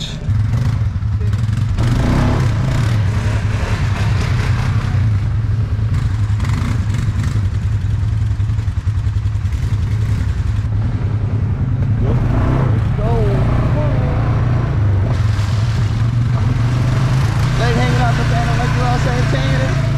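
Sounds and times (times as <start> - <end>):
quad bike engine running: 0.0 - 19.9.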